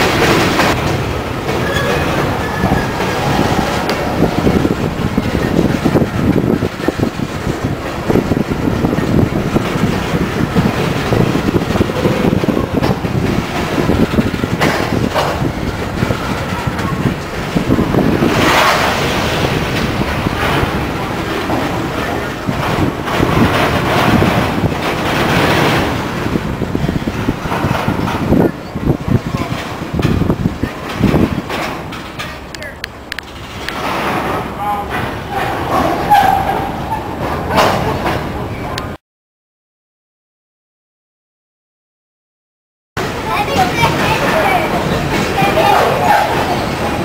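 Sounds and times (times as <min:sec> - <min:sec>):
rail clacks: 0:00.0 - 0:39.0, 0:43.0 - 0:47.0
train wheels rumbling on rail: 0:00.0 - 0:39.0, 0:43.0 - 0:47.0
wind on microphone: 0:00.0 - 0:39.0.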